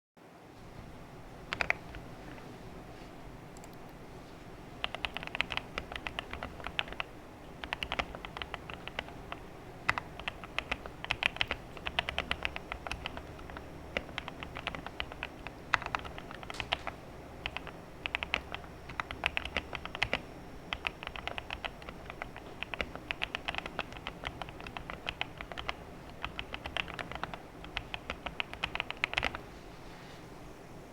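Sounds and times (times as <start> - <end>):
mechanical keyboard typing: 1.5 - 2.0, 4.8 - 29.4.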